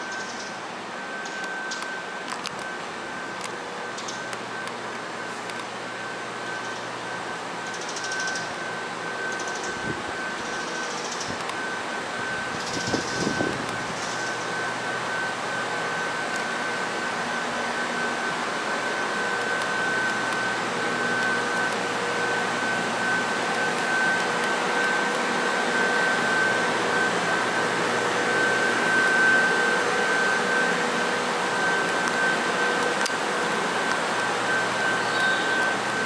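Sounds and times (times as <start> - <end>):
air-conditioning equipment whirring: 0.0 - 36.0
constant high whine: 0.0 - 36.0.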